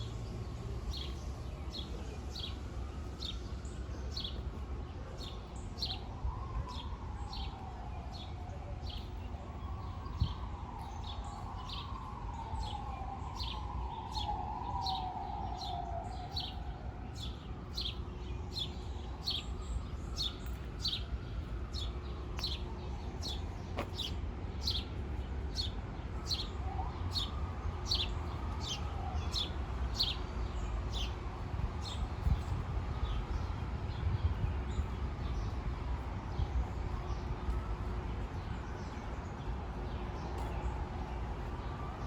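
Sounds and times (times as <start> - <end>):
low city rumble: 0.0 - 42.0.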